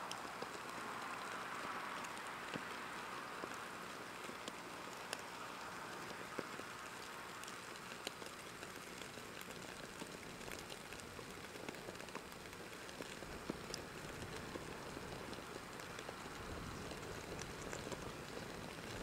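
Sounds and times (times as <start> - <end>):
soft fire hiss: 0.0 - 19.0
wood fire crackling: 0.0 - 19.0.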